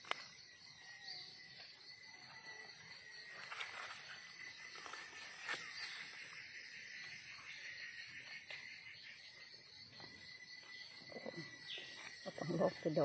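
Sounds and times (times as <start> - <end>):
insects buzzing and trilling: 0.0 - 13.0.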